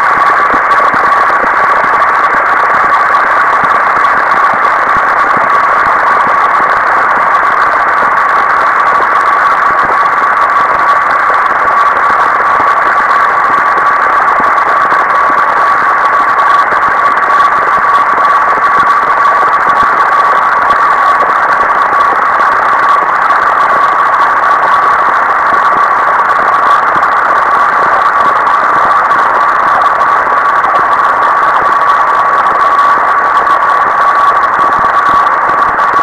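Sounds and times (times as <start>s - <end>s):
static-like noise: 0.0s - 36.0s.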